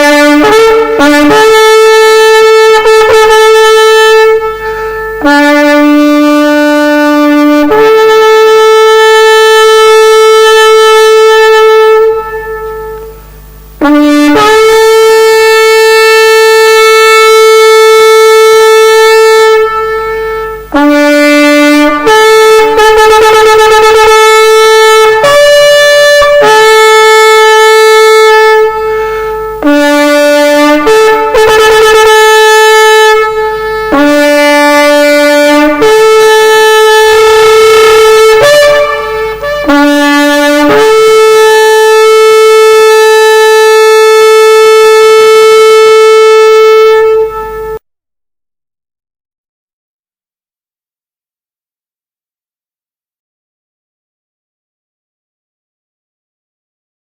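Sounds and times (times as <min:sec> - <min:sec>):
ram's horn blasts: 0:00.0 - 0:47.8.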